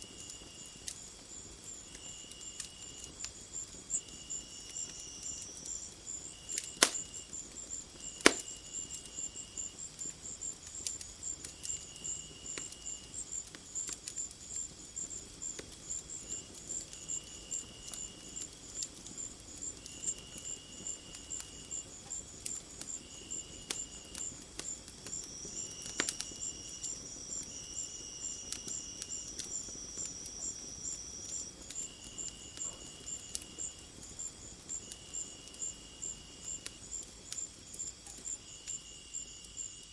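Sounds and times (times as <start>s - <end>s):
insects chirping: 0.0s - 39.9s
wood fire crackling: 0.0s - 39.9s.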